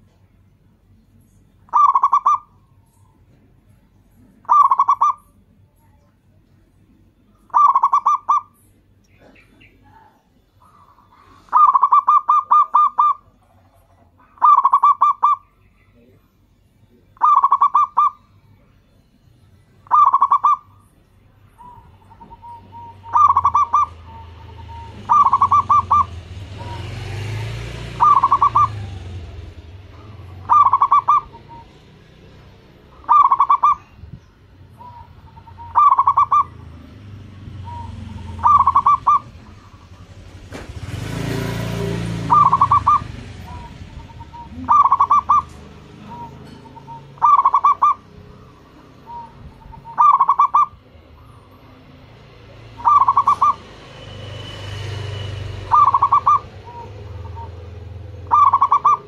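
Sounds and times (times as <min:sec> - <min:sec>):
dove cooing: 0:01.6 - 0:03.2, 0:04.2 - 0:06.0, 0:07.3 - 0:15.6, 0:17.2 - 0:18.4, 0:19.8 - 0:20.9, 0:21.5 - 0:53.8, 0:55.5 - 0:59.0.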